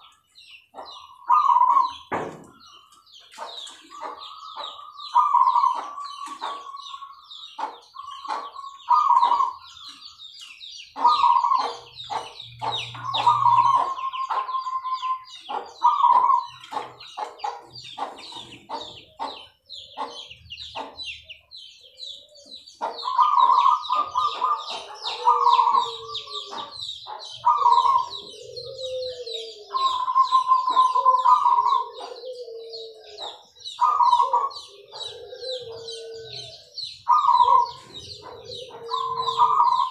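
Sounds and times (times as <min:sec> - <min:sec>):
doves cooing in trilled phrases: 0:00.0 - 0:39.9
high chirping of small birds: 0:00.0 - 0:39.9.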